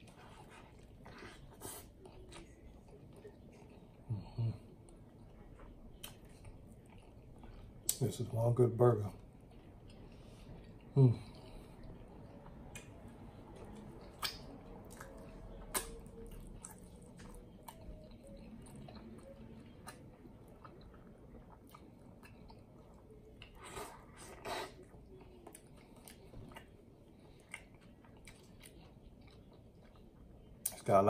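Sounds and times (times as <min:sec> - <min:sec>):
person chewing wet mouth sounds: 0:00.0 - 0:08.0, 0:09.4 - 0:30.8.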